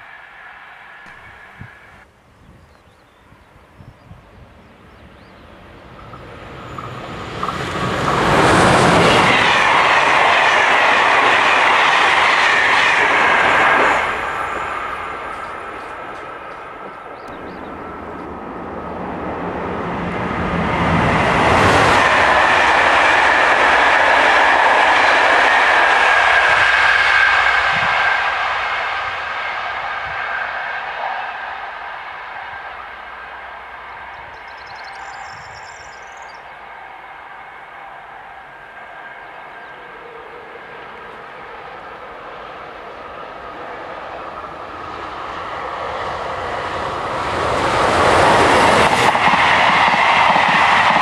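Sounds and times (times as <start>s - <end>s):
trains passing at speed: 0.0s - 51.0s.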